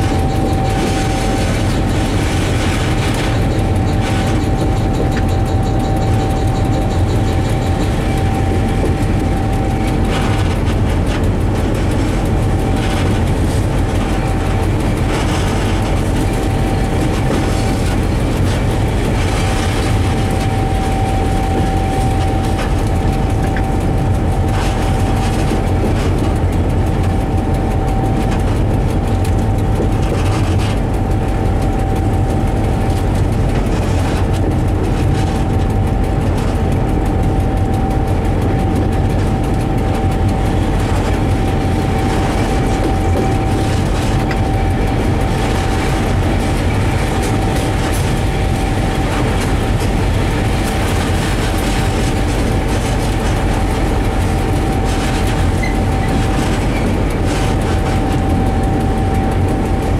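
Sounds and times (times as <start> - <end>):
high whine: 0.0 - 59.9
locomotive engine drone: 0.0 - 59.9
wheels clicking over rail joints: 0.0 - 59.9.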